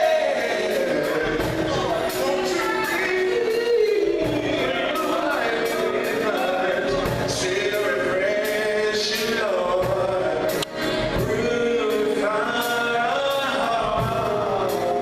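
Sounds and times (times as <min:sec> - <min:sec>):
band percussion beat: 0:00.0 - 0:15.0
gospel choir singing: 0:00.0 - 0:15.0.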